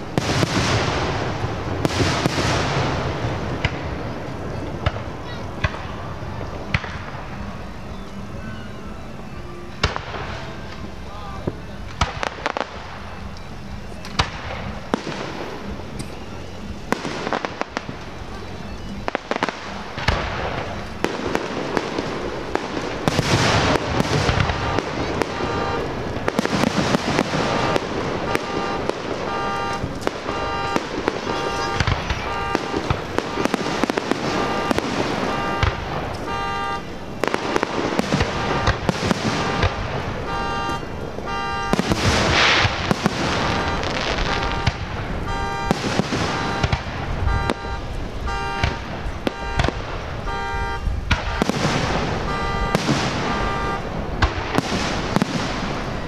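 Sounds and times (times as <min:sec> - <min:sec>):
booming firework bursts: 0:00.0 - 0:07.9, 0:09.7 - 0:56.0
fireworks bangs and crackling: 0:00.0 - 0:56.0.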